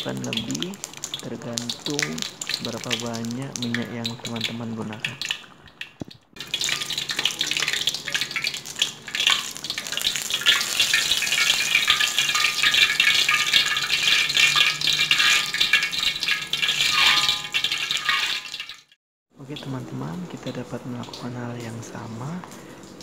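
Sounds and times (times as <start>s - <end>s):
hot oil sizzling: 0.0s - 23.0s.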